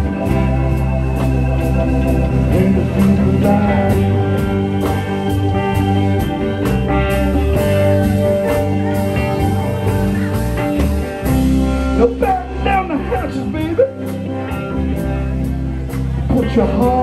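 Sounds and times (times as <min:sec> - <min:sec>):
bass guitar: 0:00.0 - 0:17.0
electric guitar: 0:00.0 - 0:17.0
steady drum beat: 0:00.0 - 0:17.0.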